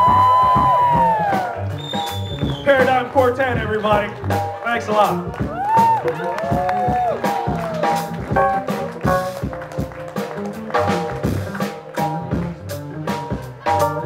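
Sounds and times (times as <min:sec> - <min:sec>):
drum kit beating a rhythm: 0:00.0 - 0:14.0
keyboard chords: 0:00.0 - 0:14.0
upright bass walking line: 0:00.0 - 0:14.0.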